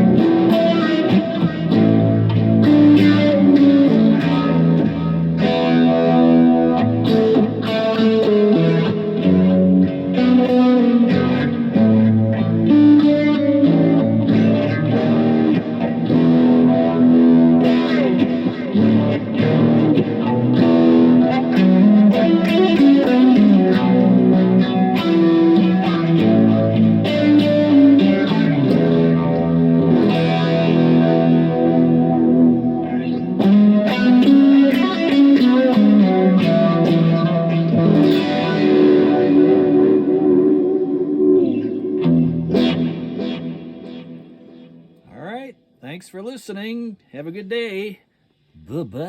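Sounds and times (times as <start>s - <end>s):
electric guitar with phaser: 0.0s - 45.8s.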